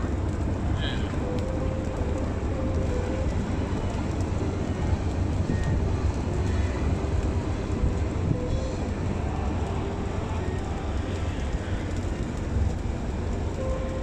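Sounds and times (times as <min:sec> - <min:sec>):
diesel engines low rumble: 0:00.0 - 0:14.0.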